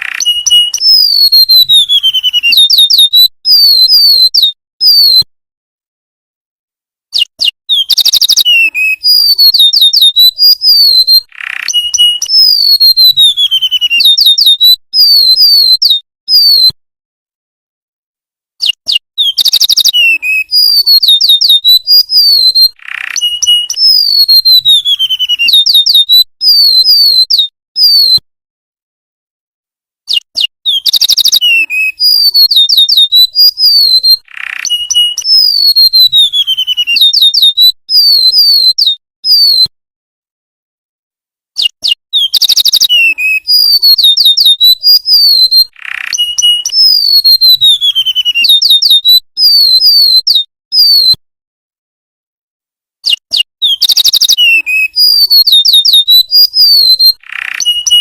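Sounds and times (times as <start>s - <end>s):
bird whistled song with trills: 0.0s - 5.3s, 7.1s - 16.8s, 18.6s - 28.2s, 30.1s - 39.7s, 41.6s - 51.2s, 53.0s - 58.0s.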